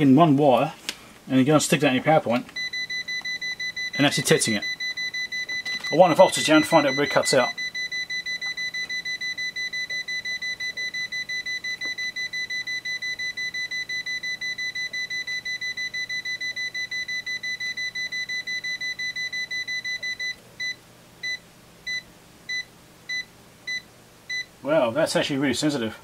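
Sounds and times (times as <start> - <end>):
high-pitched multimeter beeps: 2.6 - 24.5.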